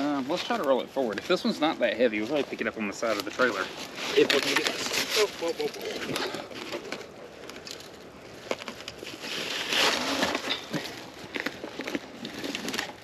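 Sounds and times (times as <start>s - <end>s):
dry leaves rustling and crunching: 0.0s - 13.0s
scraping: 2.2s - 13.0s.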